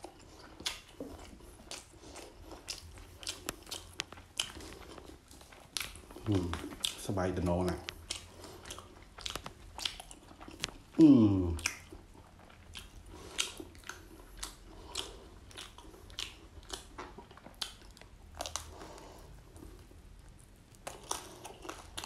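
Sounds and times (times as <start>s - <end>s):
crunching and chewing food: 0.0s - 22.0s.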